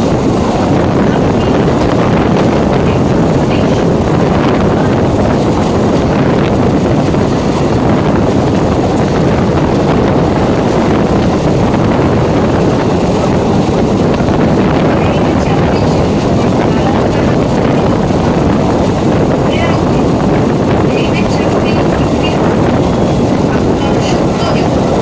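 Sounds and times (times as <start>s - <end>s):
train wheels rumbling on track: 0.0s - 25.0s
wind noise on microphone: 0.0s - 25.0s.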